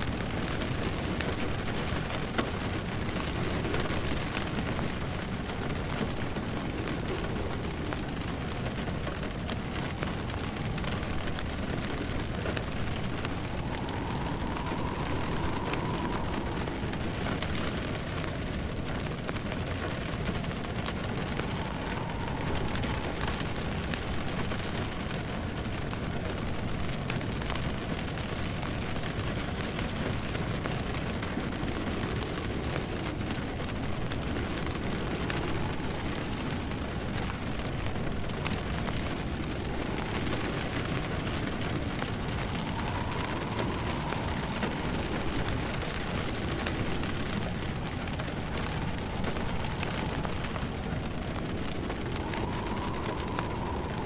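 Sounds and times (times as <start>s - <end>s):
steady rain: 0.0s - 54.0s
wind howling: 0.0s - 54.0s
wood fire crackling: 0.0s - 54.0s.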